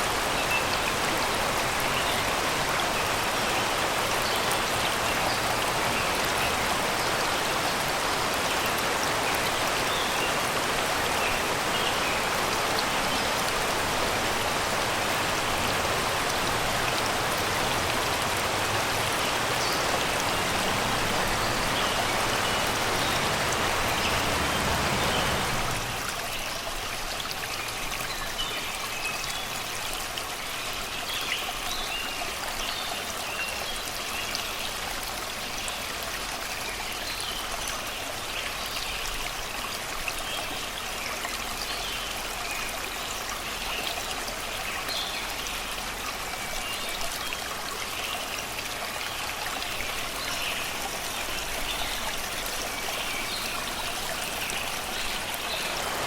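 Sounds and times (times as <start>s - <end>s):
river flowing over rocks: 0.0s - 56.0s.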